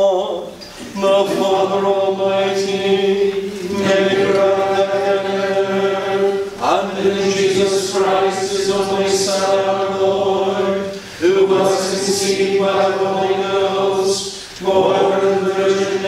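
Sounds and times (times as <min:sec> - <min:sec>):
group chanting plainsong: 0:00.8 - 0:16.0.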